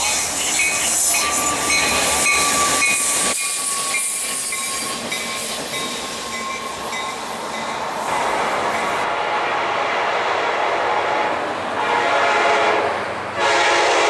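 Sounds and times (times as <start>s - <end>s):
diesel locomotive engine: 0.0s - 14.0s
rail noise: 0.0s - 14.0s.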